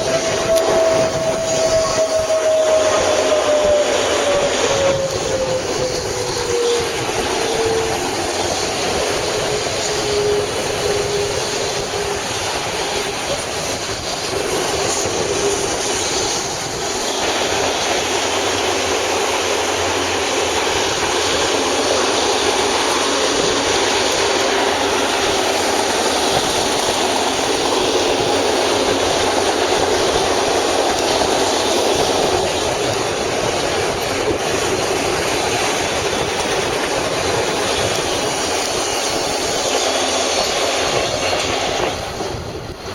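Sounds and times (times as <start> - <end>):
train passing at speed: 0.0 - 42.9.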